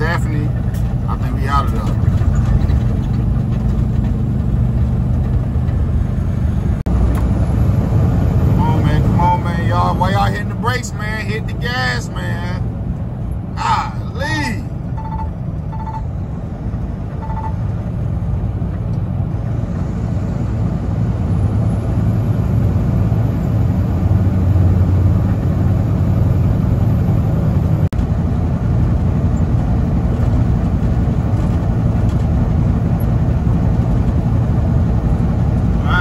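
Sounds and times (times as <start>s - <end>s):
road noise inside cab: 0.0s - 36.0s
truck engine low rumble: 0.0s - 36.0s.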